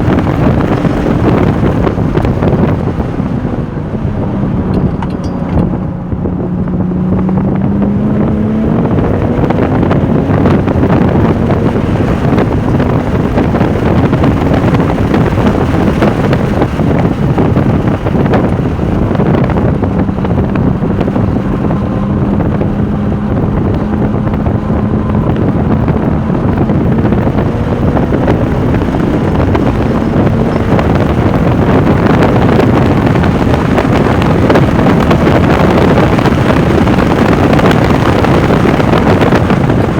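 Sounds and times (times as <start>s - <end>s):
sports car engine running hard: 0.0s - 39.9s
wind buffeting on microphone: 0.0s - 39.9s.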